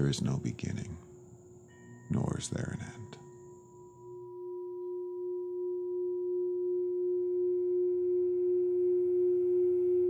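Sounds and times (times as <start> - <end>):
sustained ringing tone: 0.0 - 10.0.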